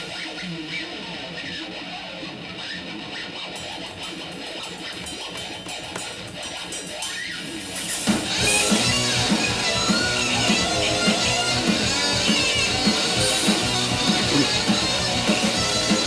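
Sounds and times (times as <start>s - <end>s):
guitar music with steady beat: 0.0s - 16.0s.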